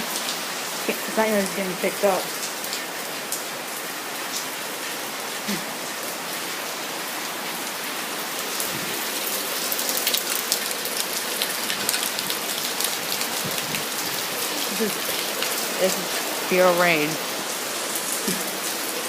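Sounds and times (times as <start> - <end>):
rain falling steadily: 0.0 - 19.0.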